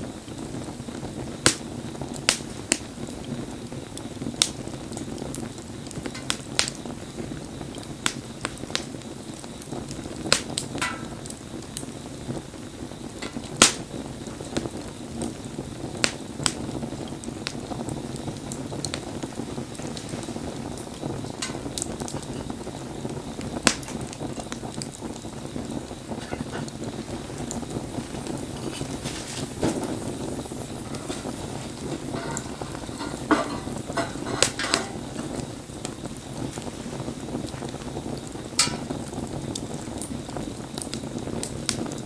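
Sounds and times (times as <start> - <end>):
bonfire crackling: 0.0 - 42.0.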